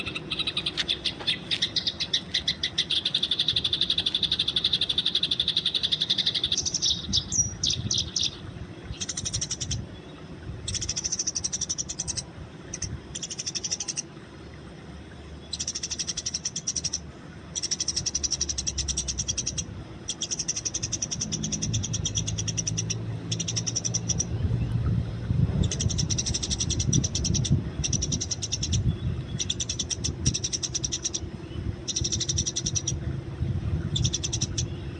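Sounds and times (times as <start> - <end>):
sparrows chirping: 0.0 - 14.1, 15.4 - 24.8, 25.6 - 33.1, 33.8 - 34.9.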